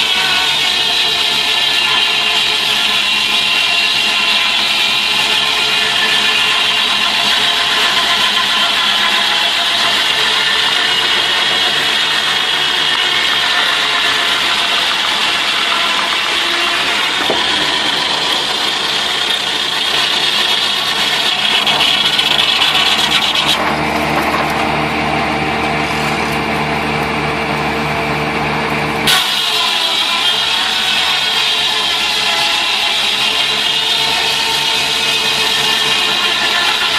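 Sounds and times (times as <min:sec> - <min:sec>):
sawmill engine hum: 0:00.0 - 0:36.9.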